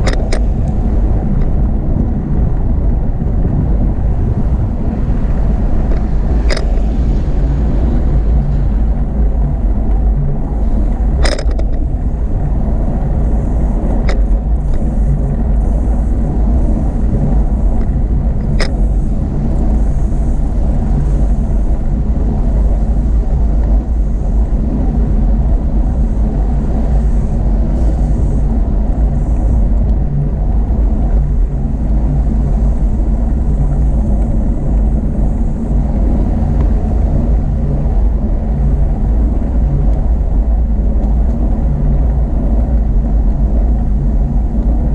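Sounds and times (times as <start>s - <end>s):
motor traffic: 0.0s - 44.9s
wind on microphone: 0.0s - 44.9s.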